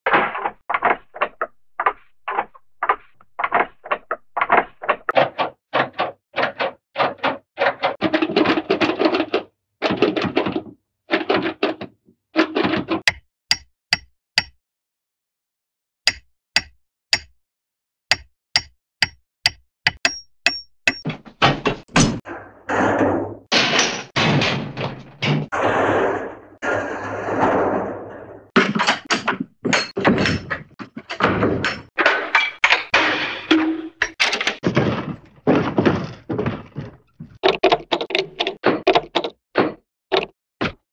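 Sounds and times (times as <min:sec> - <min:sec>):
noisy cartoon door sounds: 0:00.0 - 0:13.1, 0:20.9 - 0:40.9
cartoon door knocks and thuds: 0:00.1 - 0:14.6, 0:18.1 - 0:25.9, 0:26.6 - 0:40.9.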